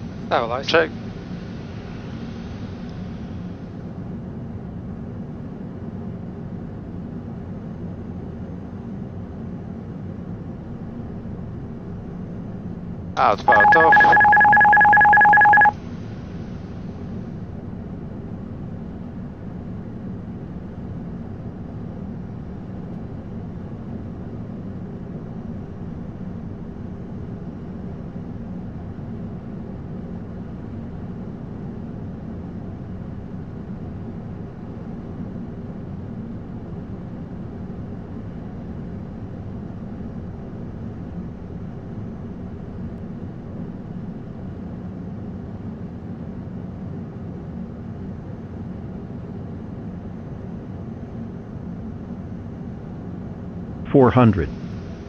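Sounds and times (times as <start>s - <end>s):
aircraft cockpit engine rumble: 0.0s - 55.0s.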